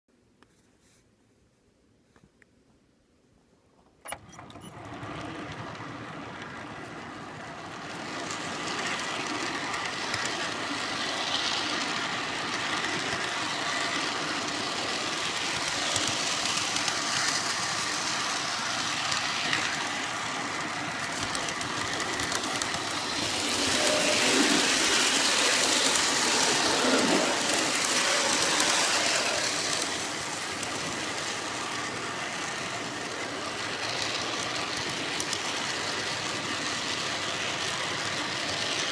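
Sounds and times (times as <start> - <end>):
model train wheels on rails: 3.8 - 38.9.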